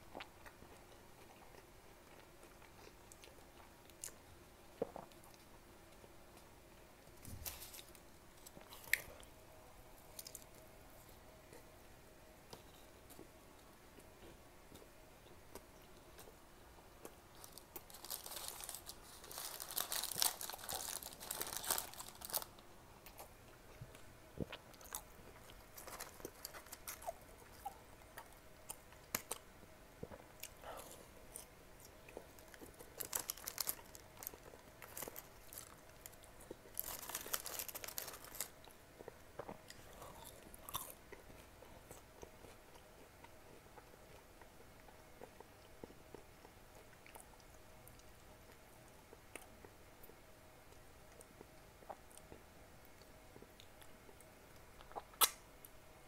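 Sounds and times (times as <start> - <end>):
crunchy fries being chewed: 0.1 - 6.5, 7.2 - 9.3, 17.0 - 55.4.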